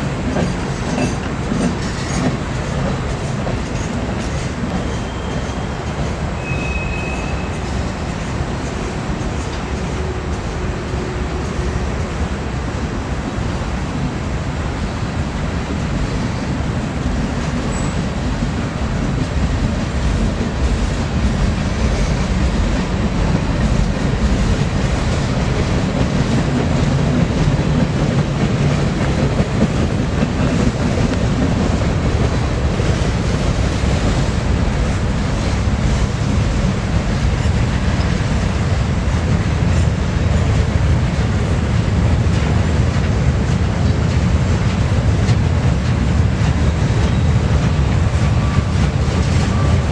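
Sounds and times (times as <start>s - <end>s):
freight train rumbling past: 0.0s - 49.9s.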